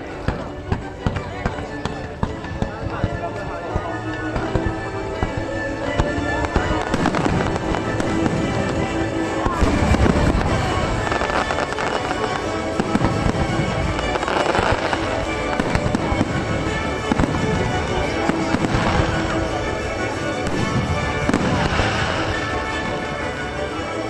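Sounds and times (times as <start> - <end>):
fireworks exploding: 0.0 - 24.0
music playing: 0.0 - 24.0.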